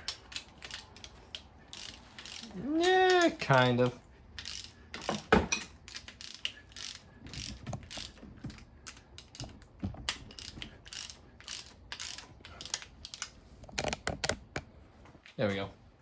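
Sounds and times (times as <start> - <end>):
ratchet wrench clicking: 0.0 - 14.1.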